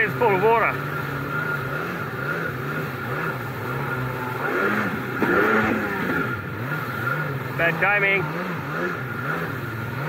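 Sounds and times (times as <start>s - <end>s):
jet ski engine revving: 0.0s - 10.0s.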